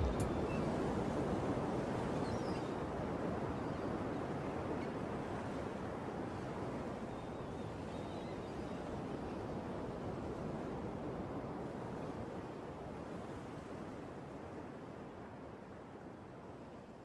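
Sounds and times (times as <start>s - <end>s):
sea surf: 0.0s - 15.9s.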